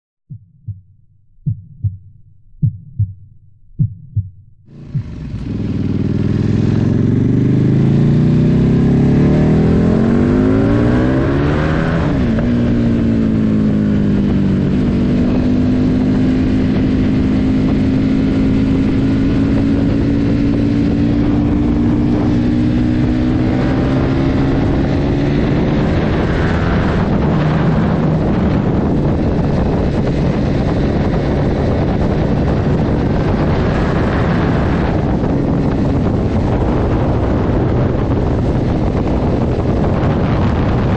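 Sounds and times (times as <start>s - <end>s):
engine accelerating: 4.6s - 40.9s
wind noise on microphone: 4.7s - 40.9s.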